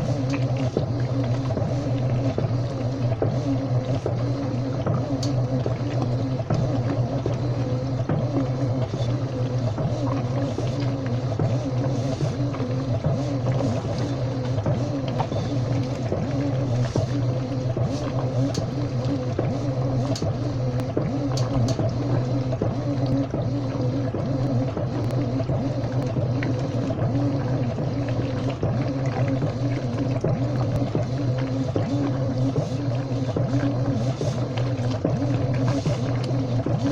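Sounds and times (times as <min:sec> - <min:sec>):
washing machine humming: 0:00.0 - 0:36.9
water sloshing: 0:00.0 - 0:36.9.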